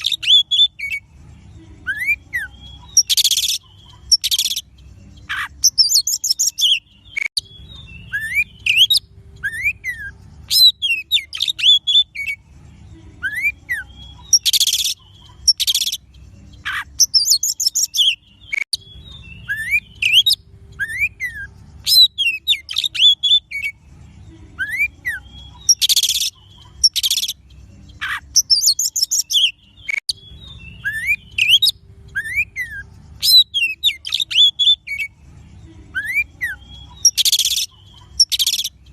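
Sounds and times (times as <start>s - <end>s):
bird song with whistled notes: 0.0s - 38.9s
harsh scratchy bird calls: 1.9s - 12.4s, 13.2s - 23.8s, 24.6s - 35.1s, 36.0s - 38.9s.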